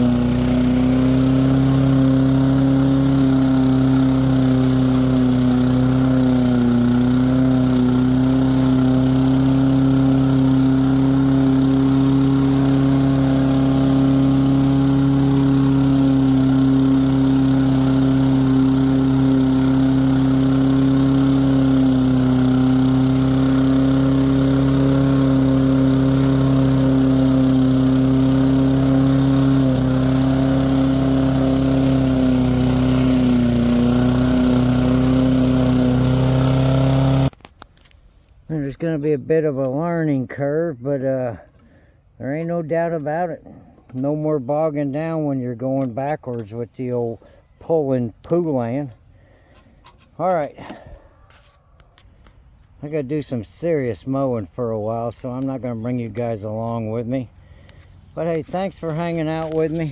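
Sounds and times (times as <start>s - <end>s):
lawn mower engine running: 0.0s - 38.8s, 46.3s - 59.9s.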